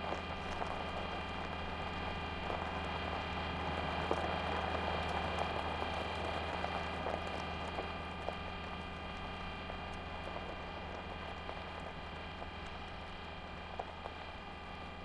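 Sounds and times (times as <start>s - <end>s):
wheels crunching over gravel: 0.0s - 15.0s.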